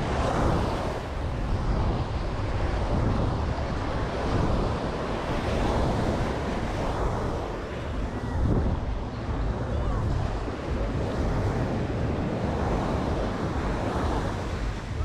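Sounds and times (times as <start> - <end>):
ocean waves washing onto beach: 0.0 - 15.0
wind buffeting microphone: 0.0 - 15.0.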